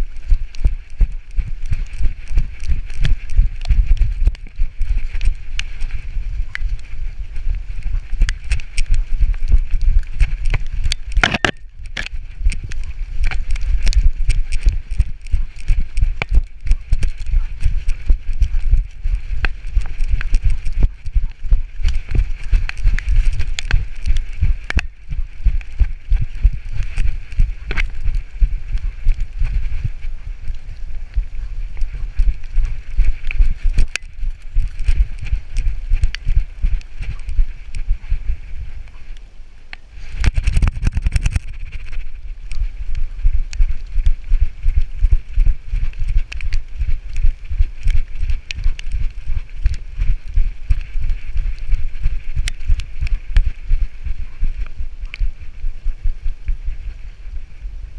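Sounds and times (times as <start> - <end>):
paws rustling through leaves: 0.0 - 39.2, 39.8 - 57.9.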